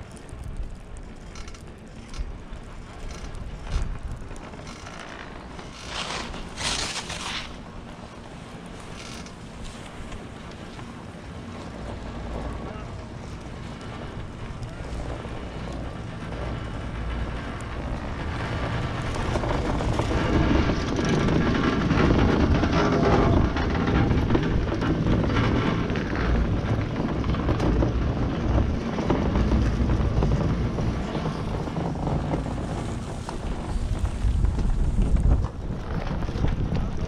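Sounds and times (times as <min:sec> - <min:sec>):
chairlift rumble: 0:00.0 - 0:37.0
wind on microphone: 0:00.0 - 0:37.0.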